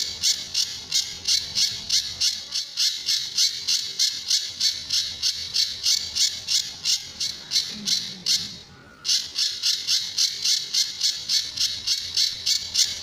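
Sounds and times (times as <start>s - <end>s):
songbird high-pitched notes: 0.0s - 13.0s.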